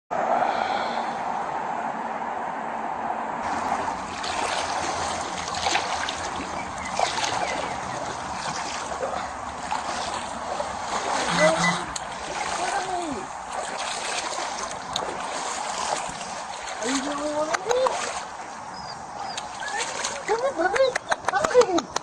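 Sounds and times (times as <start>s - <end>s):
water sloshing around legs: 3.4s - 21.5s
water splashes: 3.4s - 21.8s.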